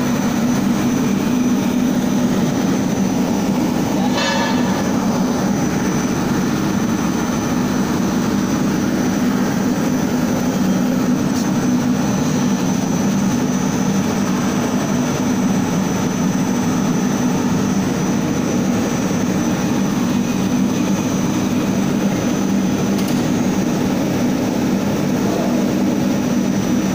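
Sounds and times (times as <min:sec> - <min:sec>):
thin high whine: 0:00.0 - 0:22.7
steady mechanical hum: 0:00.0 - 0:26.9.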